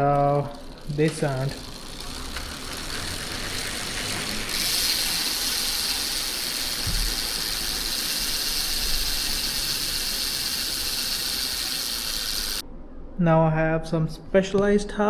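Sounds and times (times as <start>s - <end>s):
bicycle freehub buzzing: 0.0s - 12.6s.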